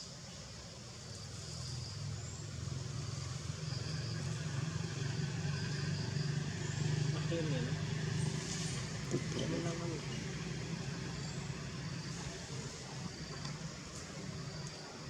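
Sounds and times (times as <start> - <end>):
vehicle engine humming: 1.3 - 15.0.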